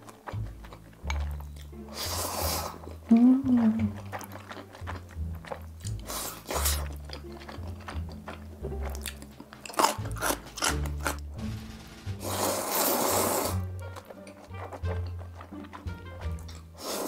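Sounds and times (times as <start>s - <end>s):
person chewing and crunching: 0.0s - 11.6s, 12.2s - 17.0s
background music with bass line: 0.0s - 16.8s.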